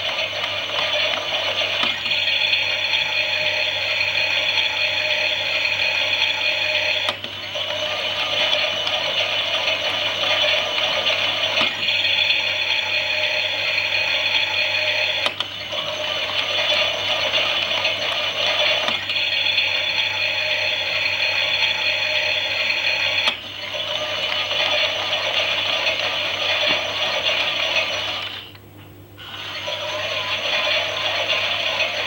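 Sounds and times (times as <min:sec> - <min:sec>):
toy washing machine motor whirring: 0:00.0 - 0:28.6, 0:29.2 - 0:32.0.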